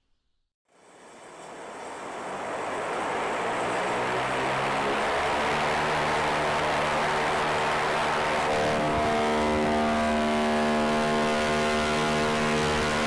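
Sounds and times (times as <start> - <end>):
helicopter rotors whirring hum: 0.7 - 13.0.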